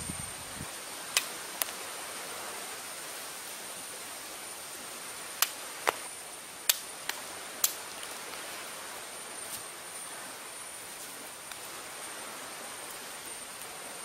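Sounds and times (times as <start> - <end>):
outdoor hiss: 0.0 - 14.0.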